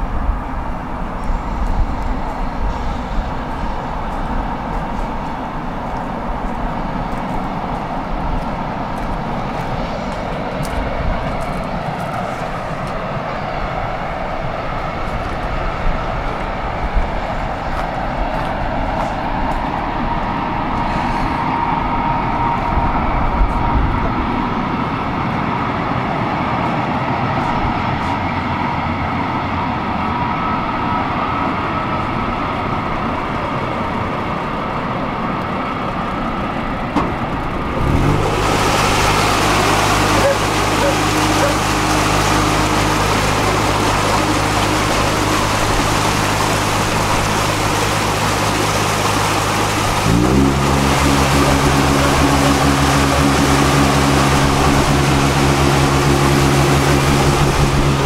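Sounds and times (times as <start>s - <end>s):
ferry engine droning: 0.0s - 58.0s.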